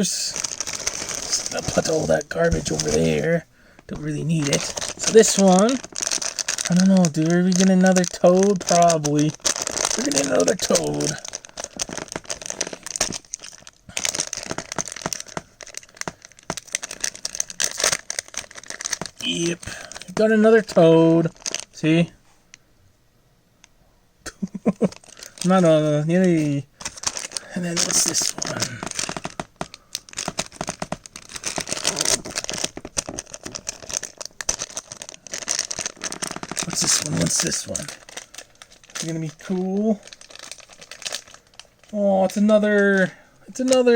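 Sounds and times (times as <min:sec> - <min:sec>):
plastic packaging crinkling: 0:00.0 - 0:22.6, 0:24.4 - 0:43.9.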